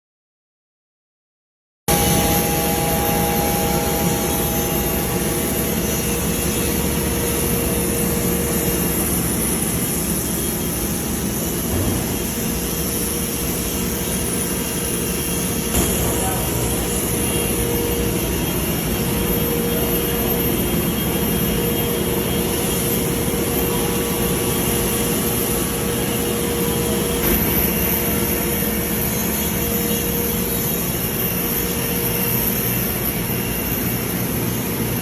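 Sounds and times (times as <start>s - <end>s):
high whine: 1.9s - 35.0s.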